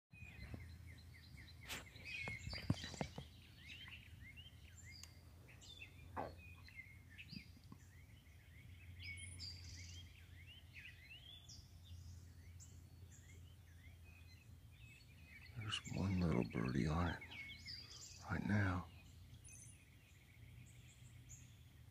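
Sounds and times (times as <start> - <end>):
small birds chirping and singing: 0.1 - 21.9.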